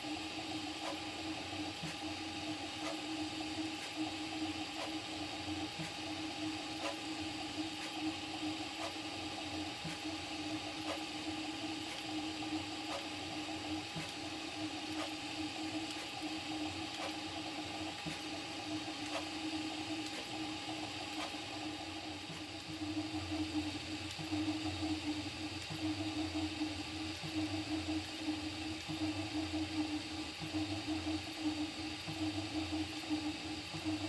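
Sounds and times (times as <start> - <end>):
printer motors and fans whirring: 0.0 - 34.0.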